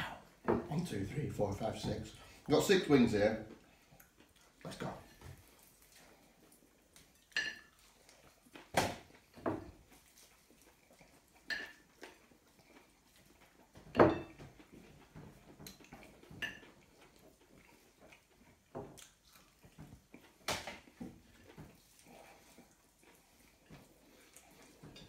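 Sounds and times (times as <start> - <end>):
wet chewing sounds: 3.2 - 25.0.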